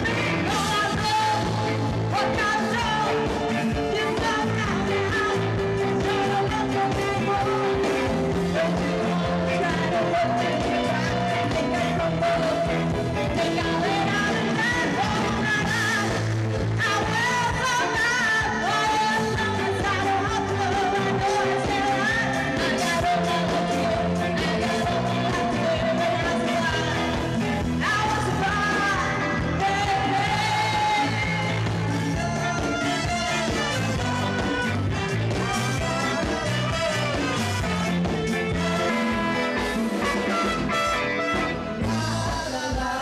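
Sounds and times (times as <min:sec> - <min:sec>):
live band playing: 0:00.0 - 0:43.0
woman singing: 0:00.0 - 0:43.0.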